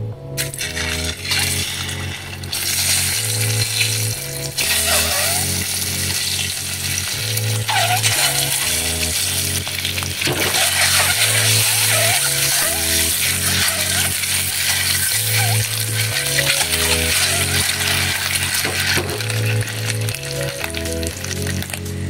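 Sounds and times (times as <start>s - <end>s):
background music melody: 0.0s - 22.0s
eggs sizzling in hot oil: 0.4s - 22.0s.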